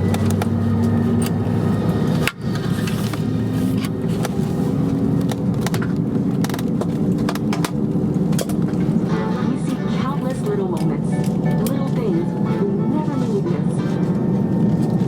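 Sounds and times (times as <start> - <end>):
aircraft cabin hum: 0.0 - 15.0.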